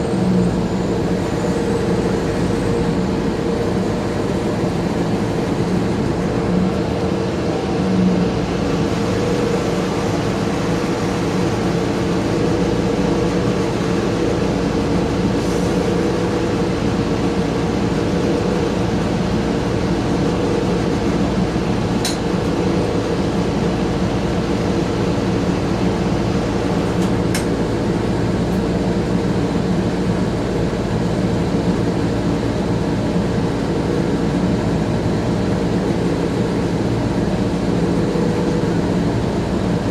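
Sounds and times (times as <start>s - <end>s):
bus engine and ventilation drone: 0.0s - 39.9s.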